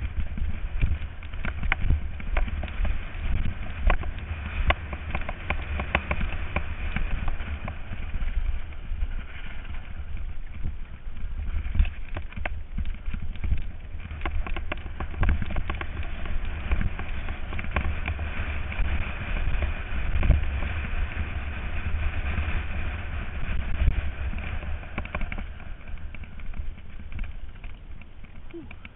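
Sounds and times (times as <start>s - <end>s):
bike rattling over bumps: 0.0s - 28.9s
bike tyres rolling over dirt: 0.0s - 28.9s
wind buffeting microphone: 0.0s - 28.9s.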